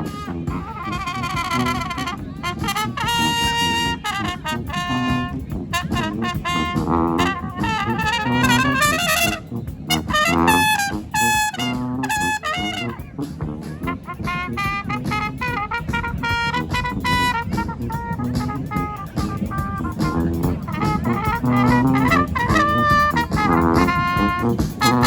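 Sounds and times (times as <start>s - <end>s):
brass band playing: 0.0s - 25.0s
high horns bending on held notes: 0.0s - 25.0s
steady low brass line: 0.0s - 25.0s.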